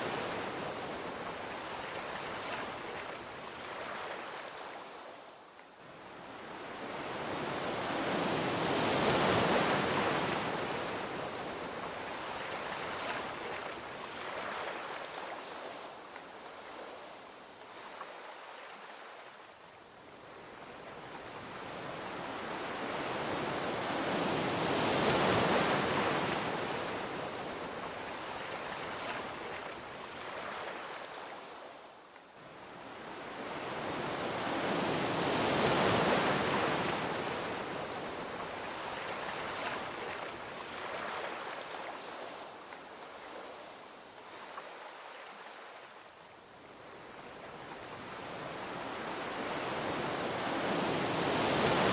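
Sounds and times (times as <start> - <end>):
ocean waves breaking on beach: 0.0 - 51.9.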